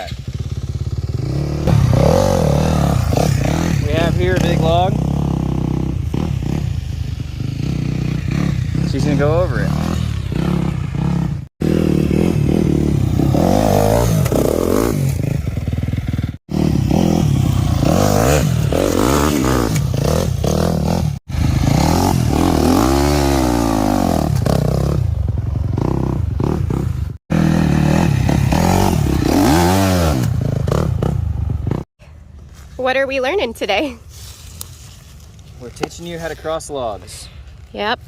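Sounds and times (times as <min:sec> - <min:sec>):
dirt bike engine revving: 0:00.0 - 0:31.8.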